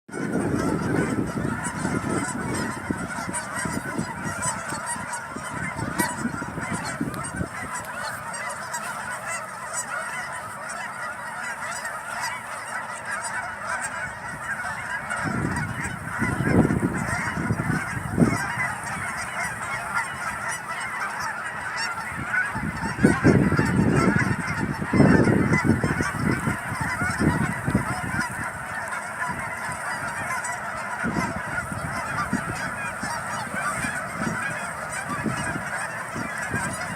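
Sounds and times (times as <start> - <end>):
geese honking: 0.1 - 36.9.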